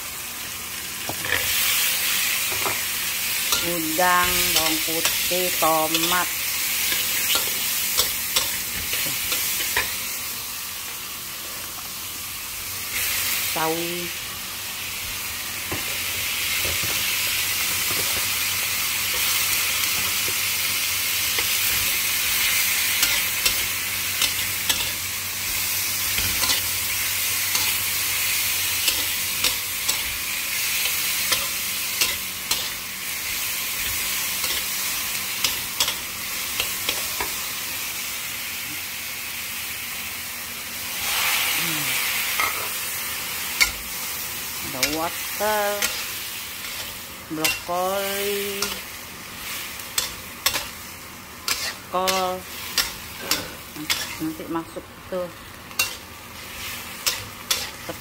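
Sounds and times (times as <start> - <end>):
vegetables sizzling in a pan: 0.0 - 58.0.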